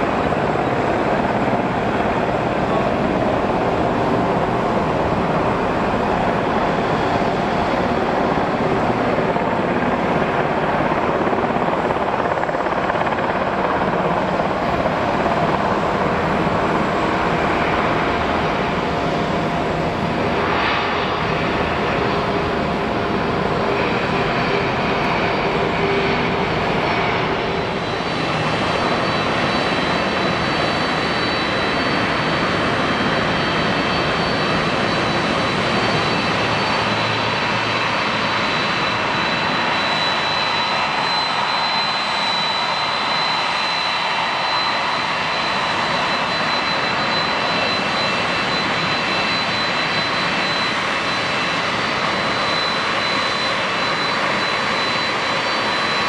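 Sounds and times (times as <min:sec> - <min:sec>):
jet engine high whine: 0:00.0 - 0:56.0
jet engines rushing: 0:00.0 - 0:56.0.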